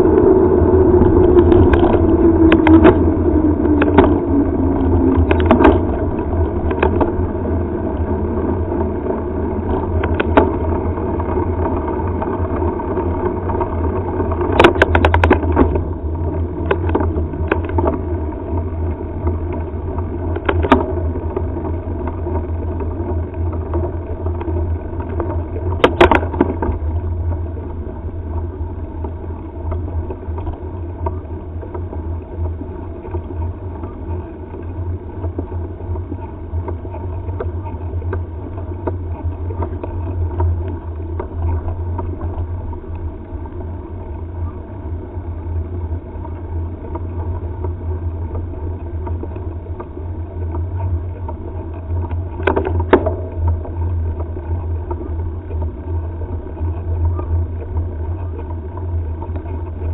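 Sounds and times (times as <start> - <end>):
tyre rumble on asphalt: 0.0 - 59.9
wind noise: 0.0 - 59.9.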